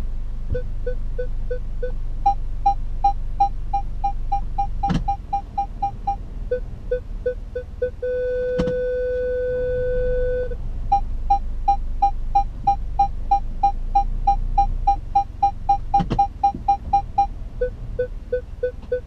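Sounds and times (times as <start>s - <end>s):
high-pitched parking sensor beeps: 0.5s - 19.0s
low-pitched parking sensor beeps: 0.5s - 19.0s.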